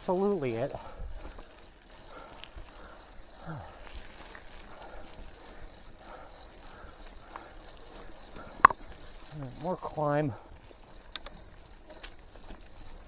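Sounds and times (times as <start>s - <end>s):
bike tyres on dirt trail: 0.0s - 13.0s.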